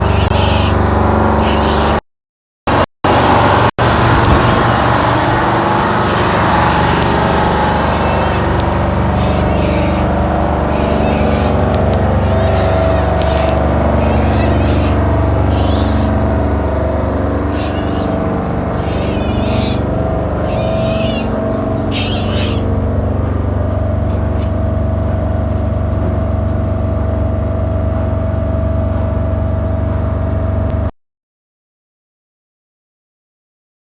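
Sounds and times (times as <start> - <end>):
motor humming: 0.0 - 2.0, 2.7 - 30.9.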